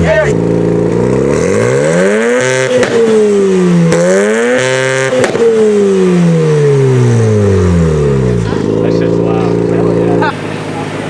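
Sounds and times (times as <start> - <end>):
car engine revving: 0.0 - 11.0
exhaust pops: 0.0 - 11.0.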